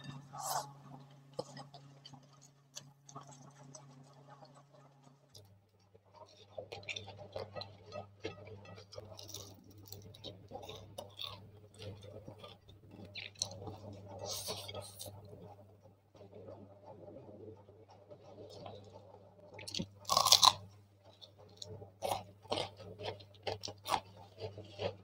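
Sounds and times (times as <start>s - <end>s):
chewing: 0.0s - 5.5s, 6.1s - 16.3s, 17.5s - 25.0s
low steady hum: 0.0s - 25.0s.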